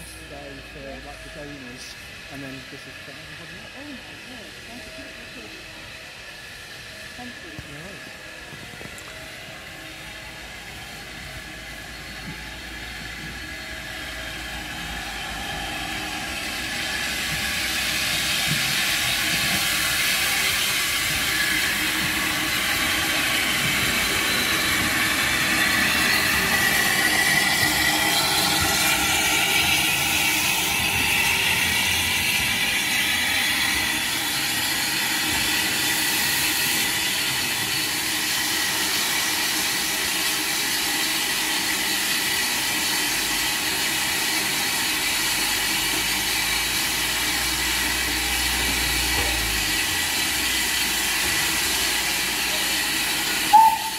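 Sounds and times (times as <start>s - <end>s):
steam locomotive hissing: 0.0s - 53.9s.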